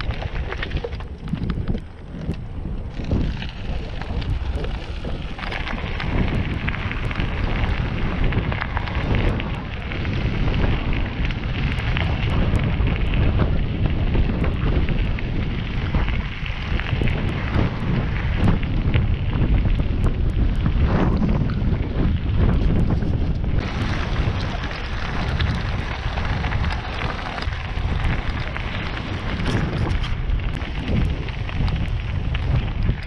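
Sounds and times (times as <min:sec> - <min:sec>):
bicycle tyres crunching gravel: 0:00.0 - 0:33.0
wind rumble on microphone: 0:00.0 - 0:33.0.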